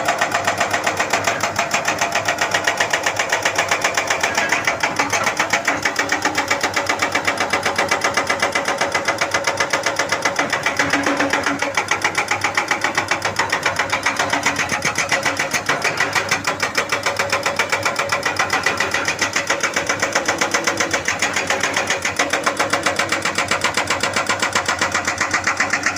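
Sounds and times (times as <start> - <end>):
excavator engine running: 0.0 - 25.9
hydraulic breaker hammering: 0.0 - 25.9.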